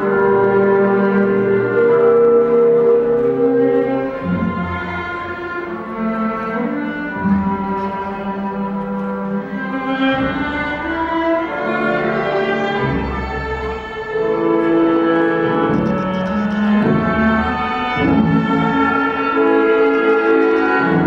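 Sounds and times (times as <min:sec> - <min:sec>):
orchestral bowed strings: 0:00.0 - 0:21.0.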